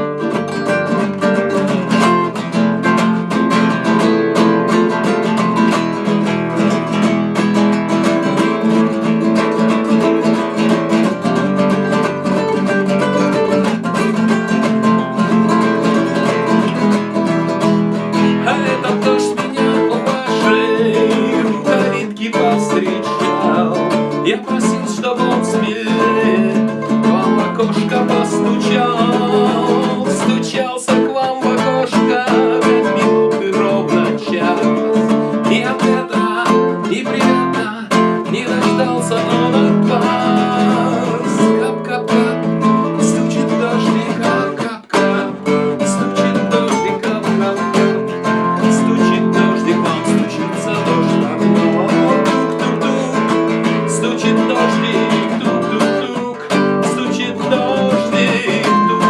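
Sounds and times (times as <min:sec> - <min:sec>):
acoustic guitar strumming and picking: 0:00.0 - 0:59.0.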